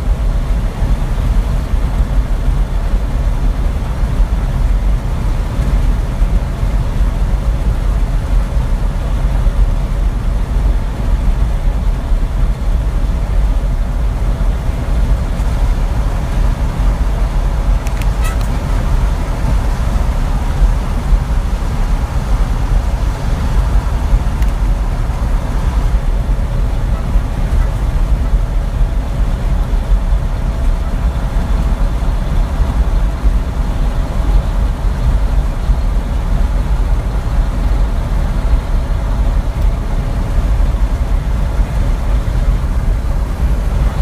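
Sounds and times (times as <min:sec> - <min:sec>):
truck engine rumble and road noise: 0:00.0 - 0:44.0.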